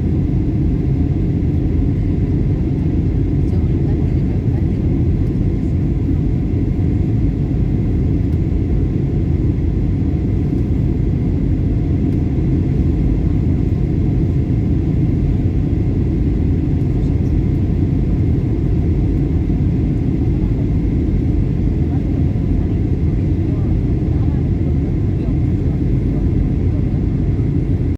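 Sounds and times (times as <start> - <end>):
jet engines rumbling in cabin: 0.0 - 27.9.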